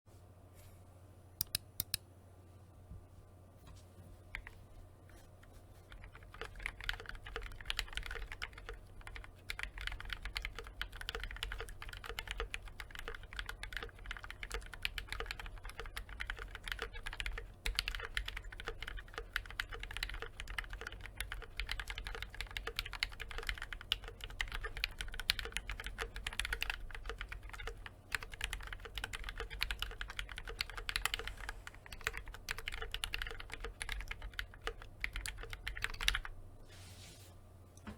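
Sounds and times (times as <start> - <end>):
mechanical keyboard typing: 4.3 - 4.6, 5.9 - 36.3.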